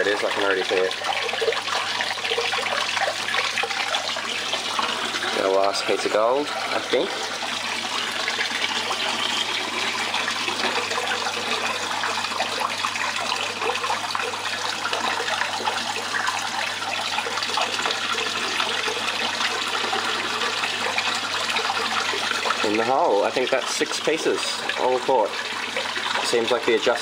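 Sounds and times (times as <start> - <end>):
water running over mat: 0.0 - 27.0.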